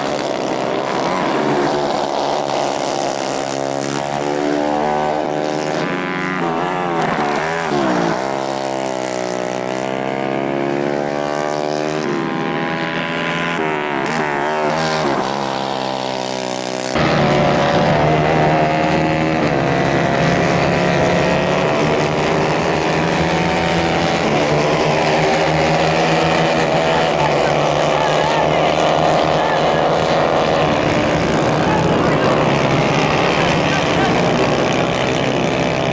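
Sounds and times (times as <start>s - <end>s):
kart engines racing: 0.0s - 35.9s.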